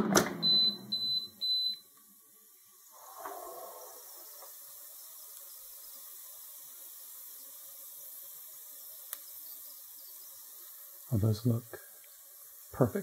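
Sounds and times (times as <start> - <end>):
chicken wings sizzling: 2.0 - 13.0.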